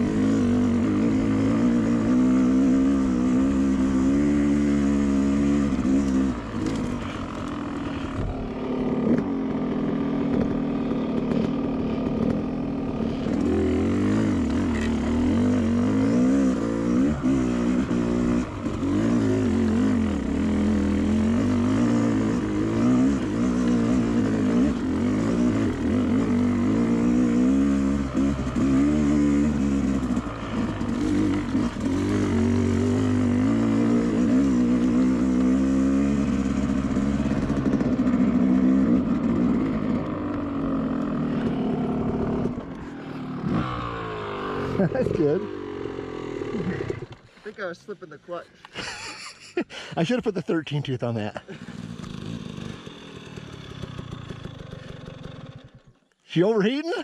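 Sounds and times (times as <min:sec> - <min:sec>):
dirt bike engine revving: 0:00.0 - 0:47.4, 0:48.8 - 0:57.0.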